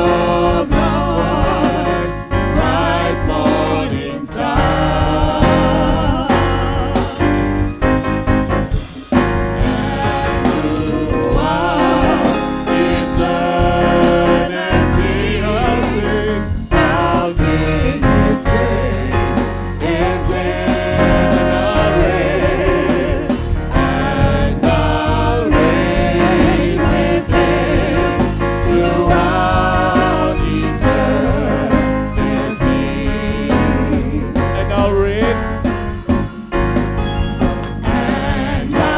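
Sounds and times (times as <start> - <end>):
group singing worship song: 0.0 - 38.9
instrumental accompaniment: 0.0 - 38.9.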